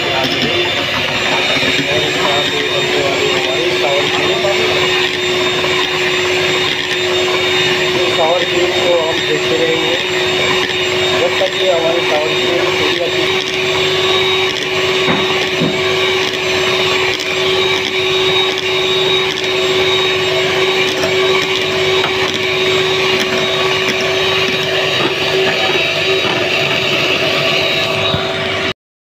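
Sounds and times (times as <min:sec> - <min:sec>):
electric mixer whine: 0:00.0 - 0:28.8.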